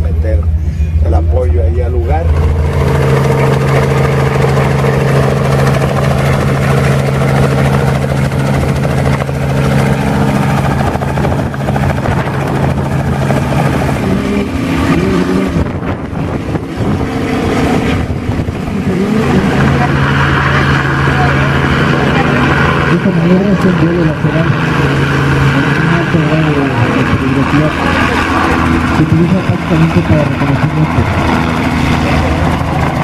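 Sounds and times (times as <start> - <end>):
helicopter flying overhead: 0.0 - 33.0.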